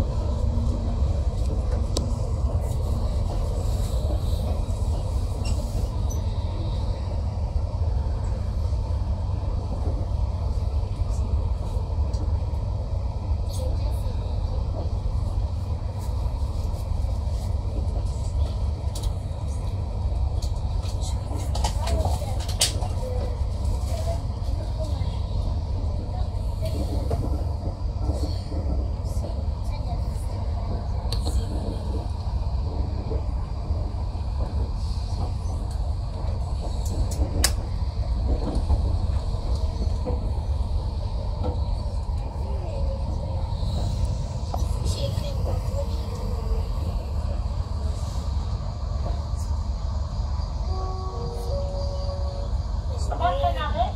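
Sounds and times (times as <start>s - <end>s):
train rumbling inside carriage: 0.0s - 53.9s.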